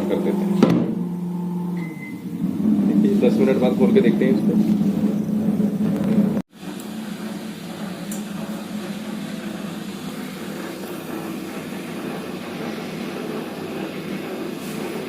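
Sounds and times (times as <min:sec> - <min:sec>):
microwave oven fan humming: 0:00.0 - 0:15.0.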